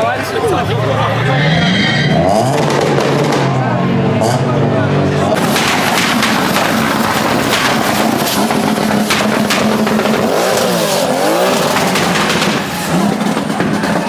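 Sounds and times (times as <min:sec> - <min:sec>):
car engines running: 0:00.0 - 0:14.0
engine revving: 0:00.0 - 0:14.0.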